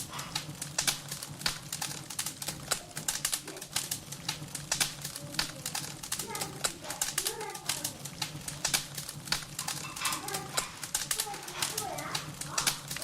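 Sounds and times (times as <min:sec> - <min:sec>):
firewood crackling in stove: 0:00.0 - 0:13.0.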